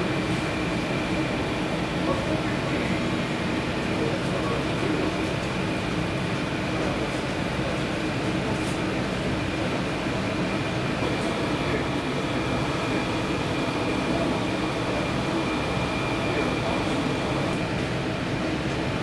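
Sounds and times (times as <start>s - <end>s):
mechanical hum and rumble: 0.0s - 19.0s.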